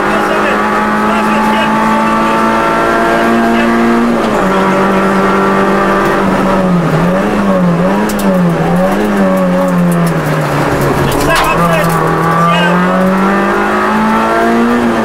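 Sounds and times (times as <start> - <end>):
rally car engine at high revs: 0.0 - 15.0.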